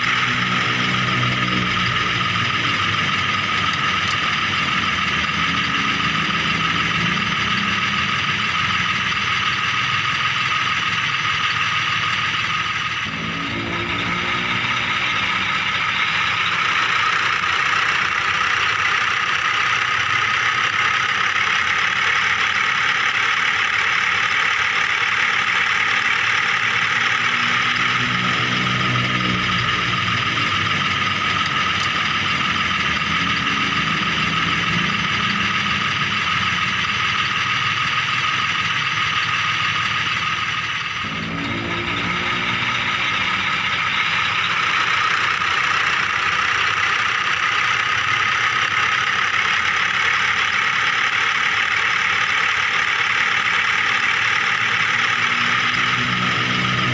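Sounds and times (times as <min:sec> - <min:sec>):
toy excavator whirring: 0:00.0 - 0:56.9.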